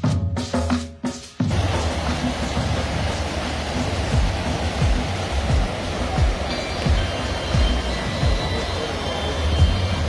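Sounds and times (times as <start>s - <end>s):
music with drum beat: 0.0s - 10.0s
steady rushing noise: 1.4s - 10.0s.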